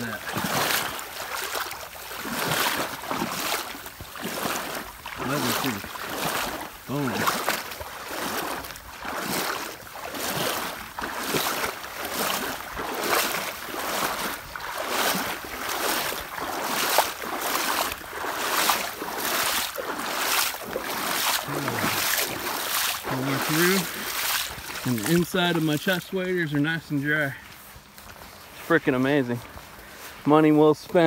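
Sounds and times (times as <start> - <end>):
wading through water: 0.0 - 31.0.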